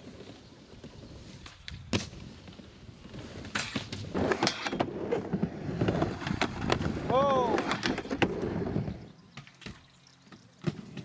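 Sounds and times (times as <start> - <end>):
skateboard wheels rumbling on ramp: 0.0 - 11.0.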